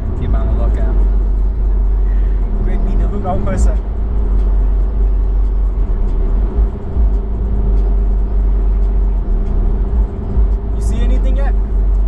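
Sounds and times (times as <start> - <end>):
car engine drone: 0.0 - 12.0
road rumble: 0.0 - 12.0.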